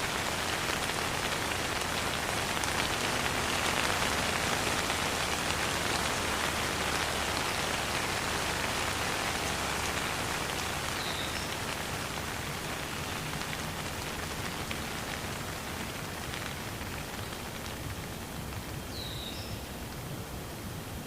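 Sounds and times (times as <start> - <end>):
steady rain pattering: 0.0 - 21.0.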